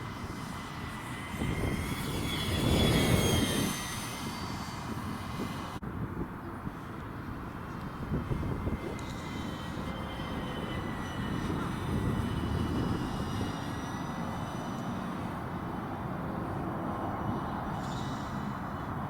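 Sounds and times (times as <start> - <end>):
aircraft engines whining: 0.0 - 5.8, 6.4 - 19.0
wind rumble on microphone: 0.0 - 19.0.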